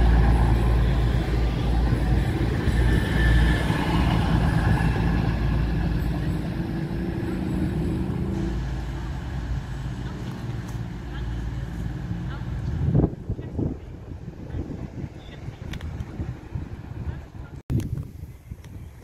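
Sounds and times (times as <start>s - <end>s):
train wheels rumbling on rails: 0.0s - 17.4s.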